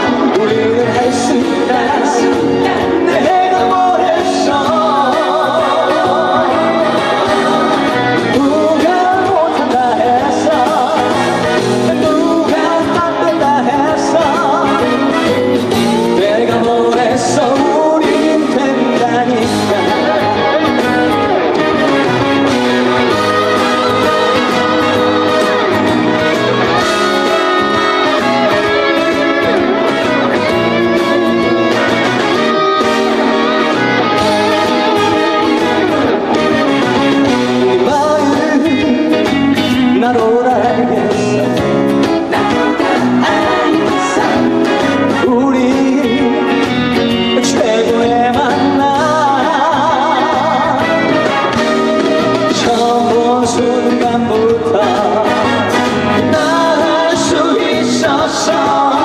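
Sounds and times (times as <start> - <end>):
live band dance music: 0.0 - 59.0.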